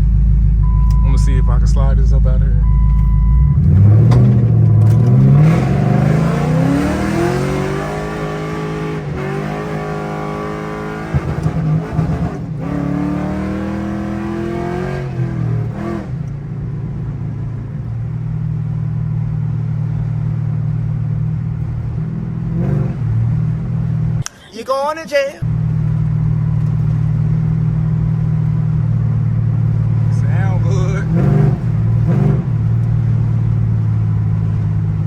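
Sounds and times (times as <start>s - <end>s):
car engine revving and idling: 0.0s - 24.3s, 25.4s - 35.0s.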